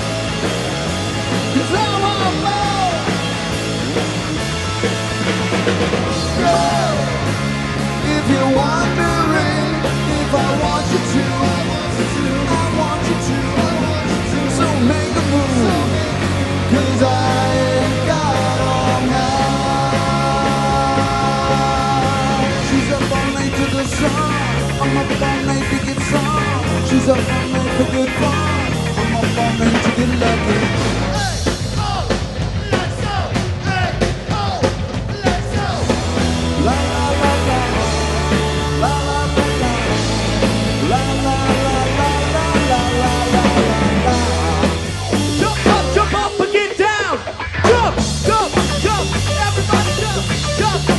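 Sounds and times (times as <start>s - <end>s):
bass guitar: 0.0s - 50.9s
drum kit: 0.0s - 50.9s
electric guitar: 0.0s - 50.9s
man singing: 1.4s - 4.0s, 6.0s - 50.9s.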